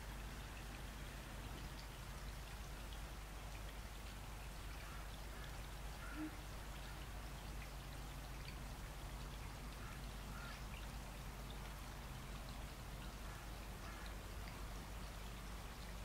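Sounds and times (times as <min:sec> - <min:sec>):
faint ticks: 0:00.0 - 0:16.0
steady hiss: 0:00.0 - 0:16.0.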